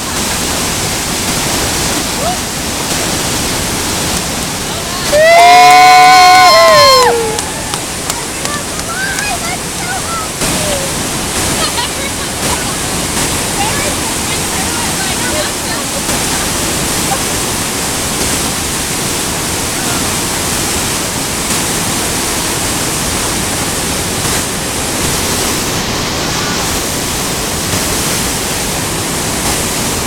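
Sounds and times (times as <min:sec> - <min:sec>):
roar of falling water: 0:00.0 - 0:30.0.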